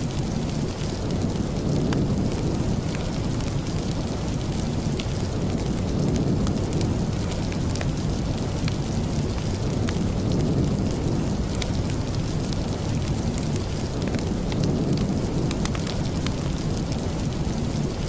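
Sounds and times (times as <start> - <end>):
rain with deep rumble: 0.0 - 18.0
sharp raindrop ticks: 0.0 - 18.0.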